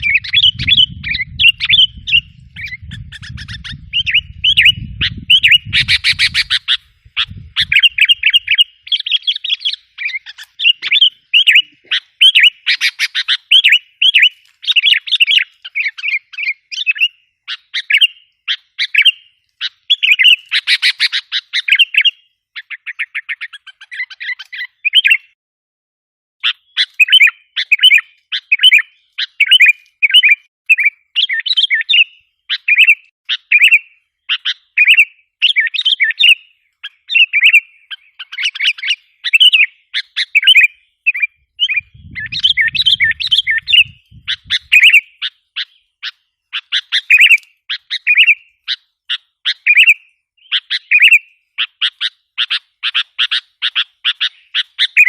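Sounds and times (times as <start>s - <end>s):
bulbul calling: 0.0s - 25.4s, 26.4s - 55.0s.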